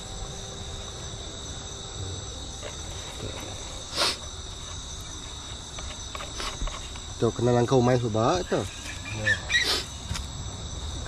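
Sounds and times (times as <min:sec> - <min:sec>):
night insects chirring: 0:00.0 - 0:11.0.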